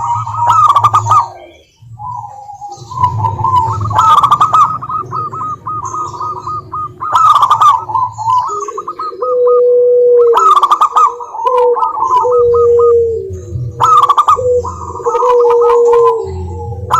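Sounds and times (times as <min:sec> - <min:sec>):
doves cooing in clipped notes: 0:00.0 - 0:16.9
low steady dove coo: 0:00.0 - 0:16.9.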